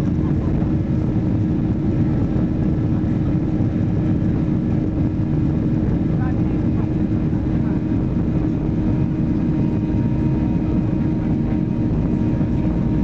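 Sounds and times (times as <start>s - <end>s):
jet engines rumbling in cabin: 0.0s - 13.0s.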